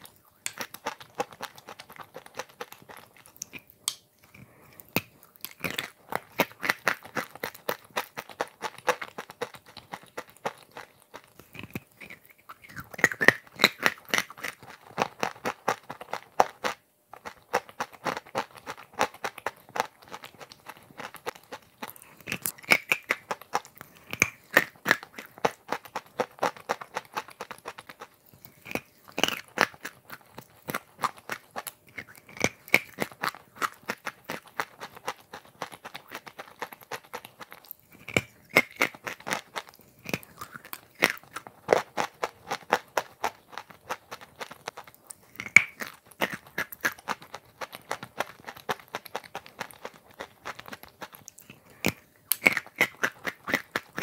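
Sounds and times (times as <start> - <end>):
crunching and chewing: 0.0 - 54.0.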